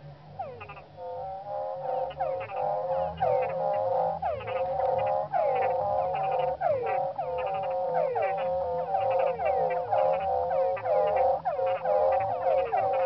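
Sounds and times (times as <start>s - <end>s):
chorus of frogs and toads calling: 0.3s - 13.0s.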